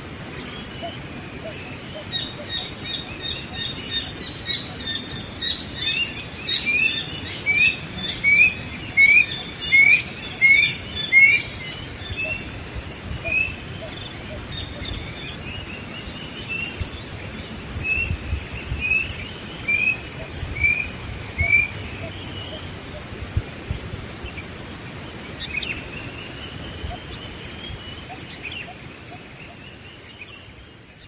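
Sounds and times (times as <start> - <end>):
background hiss: 0.0 - 31.0
birds chirping: 0.0 - 31.0.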